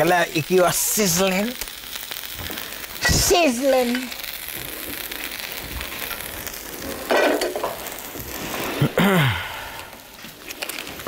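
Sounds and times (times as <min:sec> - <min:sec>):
beef sizzling in a pan: 0:00.0 - 0:11.0.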